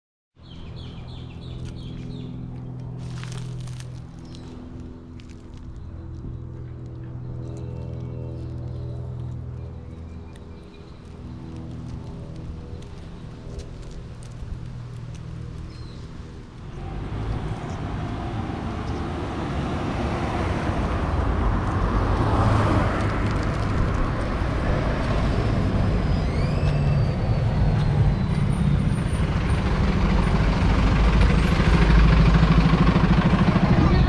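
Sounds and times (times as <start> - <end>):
road vehicle rumble: 0.4 - 34.0.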